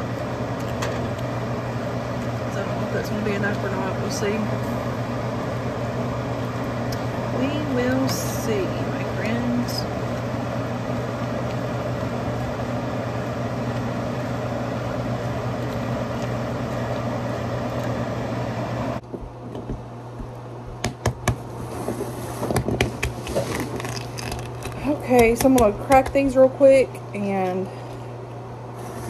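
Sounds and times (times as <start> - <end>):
kitchen fan whooshing hum: 0.0 - 29.0.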